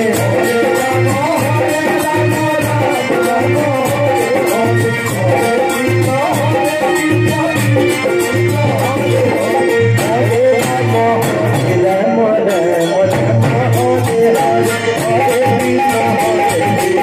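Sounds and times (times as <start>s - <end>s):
regular percussion beat: 0.0s - 17.0s.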